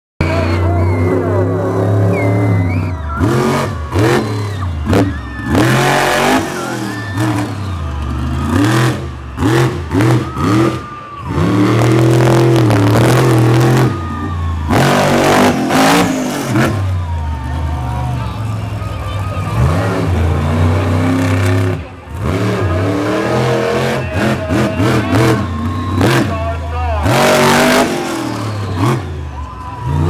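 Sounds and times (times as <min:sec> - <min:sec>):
truck engine revving: 0:00.2 - 0:30.0.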